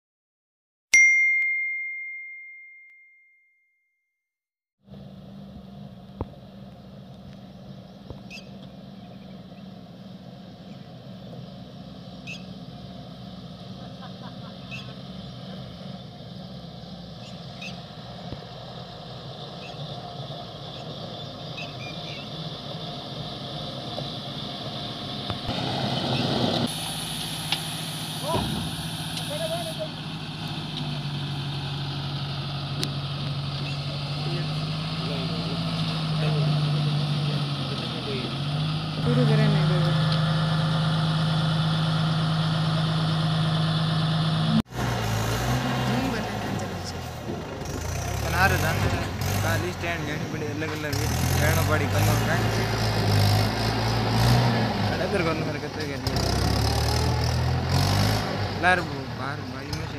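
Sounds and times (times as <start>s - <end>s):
truck diesel engines running: 4.9s - 59.9s.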